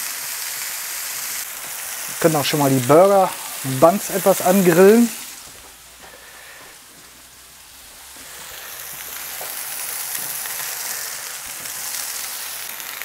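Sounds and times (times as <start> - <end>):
burger patties sizzling on griddle: 0.0 - 13.0.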